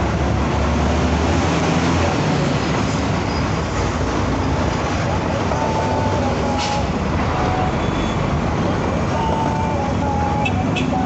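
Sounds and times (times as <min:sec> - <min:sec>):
road noise: 0:00.0 - 0:11.0
truck diesel engine: 0:00.0 - 0:11.0.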